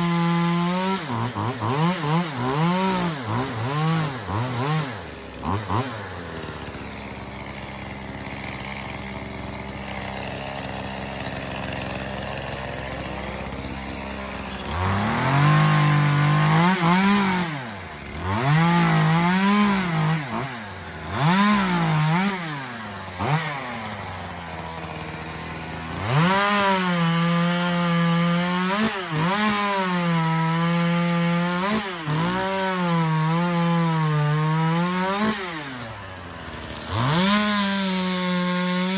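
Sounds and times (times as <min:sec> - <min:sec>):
chainsaw cutting wood: 0:00.0 - 0:38.9
chainsaw idling and revving: 0:00.0 - 0:38.9.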